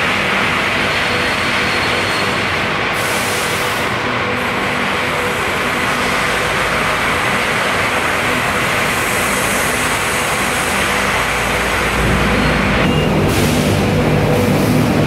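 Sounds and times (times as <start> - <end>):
factory machinery din: 0.0 - 15.0.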